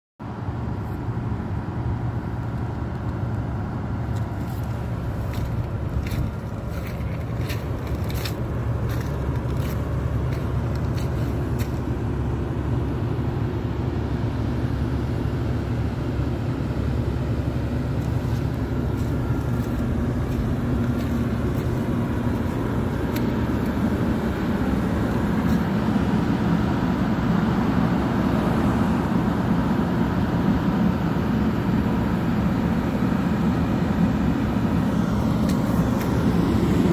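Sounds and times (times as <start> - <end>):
diesel engine idling: 0.3 - 36.9.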